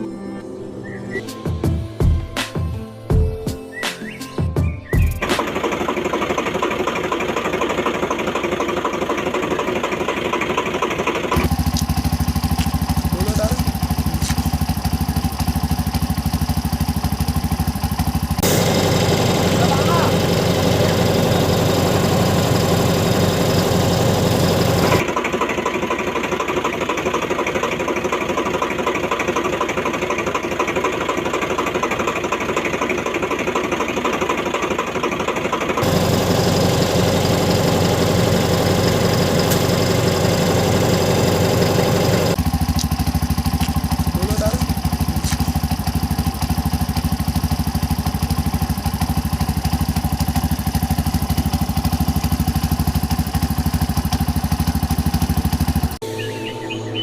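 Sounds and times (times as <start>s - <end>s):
vehicle engine running: 5.0s - 57.0s.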